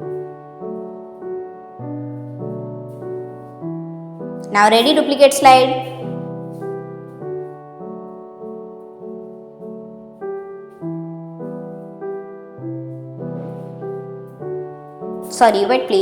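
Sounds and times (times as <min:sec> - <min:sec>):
soft piano tune: 0:00.0 - 0:16.0.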